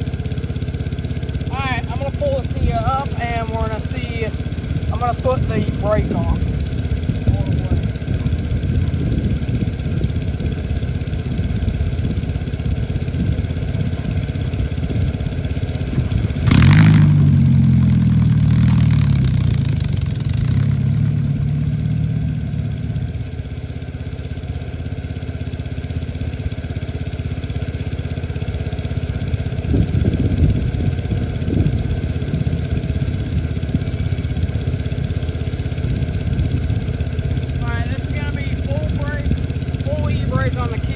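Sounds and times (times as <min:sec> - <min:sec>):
garden tractor engine revving: 0:00.0 - 0:40.9.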